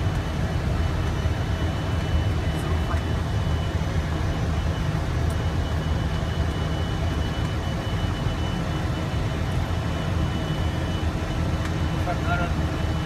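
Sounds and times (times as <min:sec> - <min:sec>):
aircraft engine rumble: 0:00.0 - 0:13.0.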